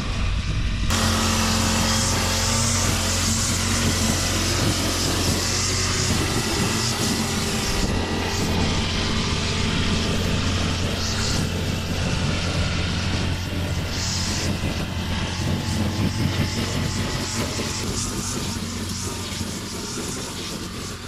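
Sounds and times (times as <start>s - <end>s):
brush cutter cutting grass: 0.9s - 21.0s.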